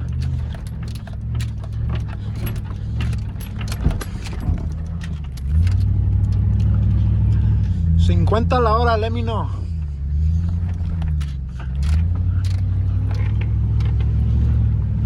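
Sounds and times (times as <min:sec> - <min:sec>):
rattling clicks and jingles: 0:00.0 - 0:08.5, 0:09.5 - 0:14.6
pickup truck engine under load: 0:00.0 - 0:15.0.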